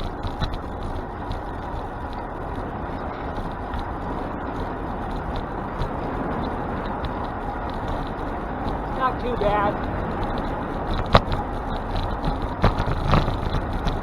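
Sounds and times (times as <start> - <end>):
street traffic: 0.0 - 14.0
wind: 0.0 - 14.0.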